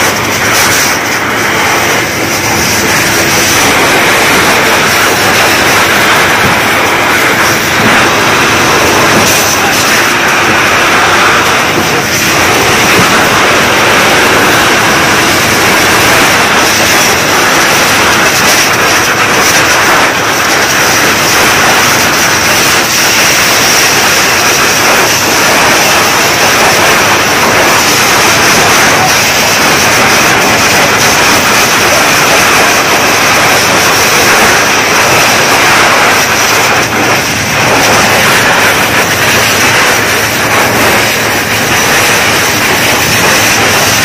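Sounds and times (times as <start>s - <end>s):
fire hose spraying water: 0.0s - 44.0s.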